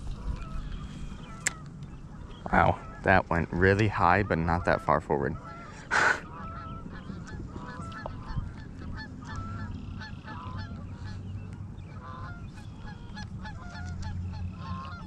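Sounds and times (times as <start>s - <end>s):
geese honking: 0.0s - 15.0s
low steady rumble: 0.0s - 15.0s.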